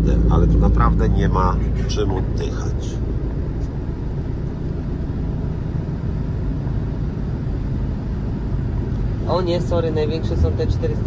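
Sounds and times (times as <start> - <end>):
car interior engine and road noise: 0.0 - 11.0.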